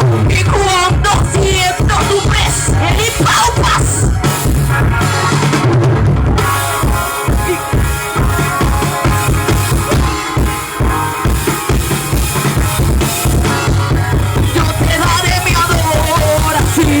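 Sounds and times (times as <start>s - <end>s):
band playing instrumental: 0.0s - 17.0s
drum kit beat: 0.0s - 17.0s.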